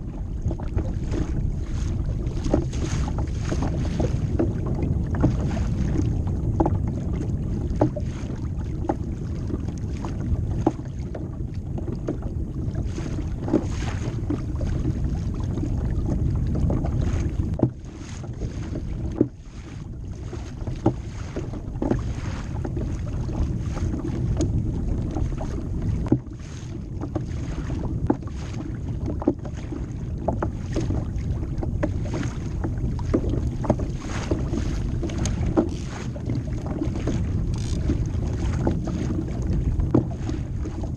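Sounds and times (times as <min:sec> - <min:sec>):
small knocks and splashes: 0:00.0 - 0:06.8, 0:07.6 - 0:11.2, 0:16.9 - 0:40.9
water slapping kayak hull: 0:00.0 - 0:40.9
wind buffeting microphone: 0:00.0 - 0:40.9.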